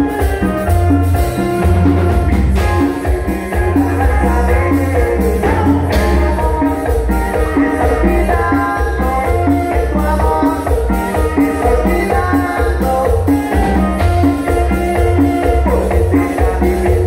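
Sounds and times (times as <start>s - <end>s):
live latin dance band: 0.0s - 17.0s.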